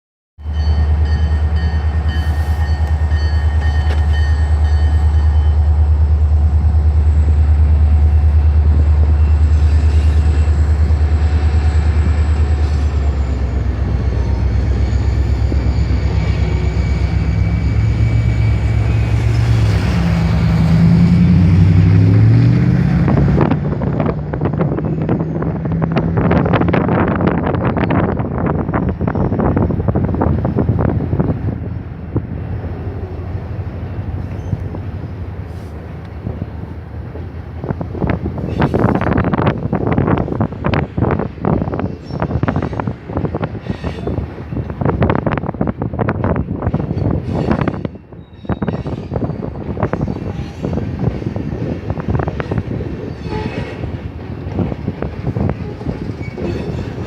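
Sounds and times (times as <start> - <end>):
diesel locomotive rumbling: 0.4 - 57.0.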